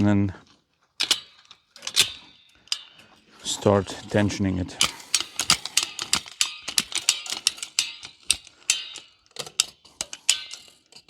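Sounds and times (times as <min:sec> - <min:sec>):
ratchet wire stretcher clicking: 0:01.0 - 0:11.0.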